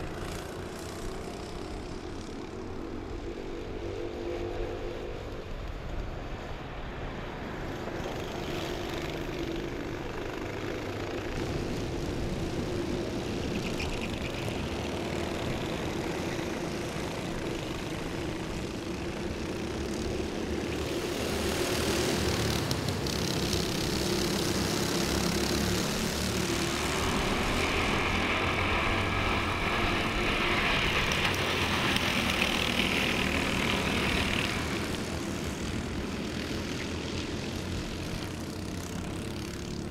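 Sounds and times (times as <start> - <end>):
racing karts buzzing past: 7.6 - 39.9.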